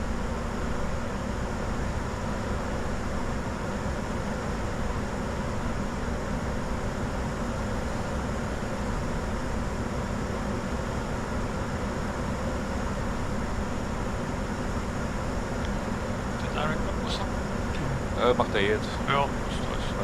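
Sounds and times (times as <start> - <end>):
engine and air-conditioning hum: 0.0 - 20.0.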